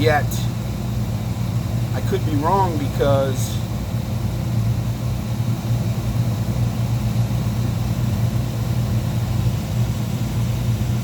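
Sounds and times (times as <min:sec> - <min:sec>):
oil burner humming: 0:00.0 - 0:11.0.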